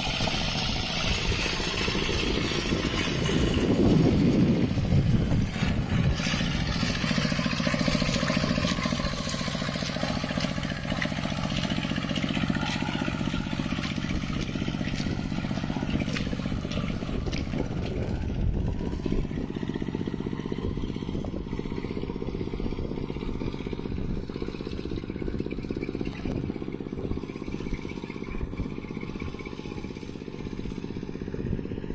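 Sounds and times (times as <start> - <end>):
tractor engine under load: 0.0 - 31.9.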